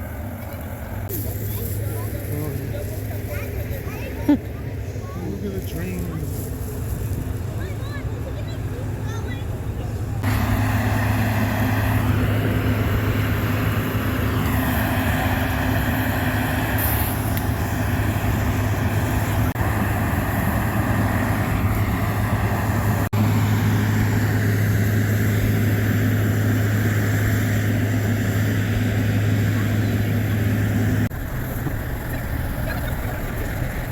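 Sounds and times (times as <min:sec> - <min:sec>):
diesel locomotive engine hum: 0:00.0 - 0:33.9.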